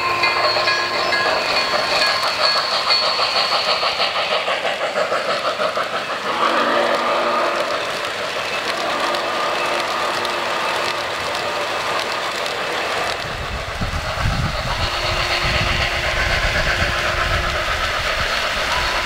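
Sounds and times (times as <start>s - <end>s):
model train wheels rolling on rails: 0.0s - 19.0s.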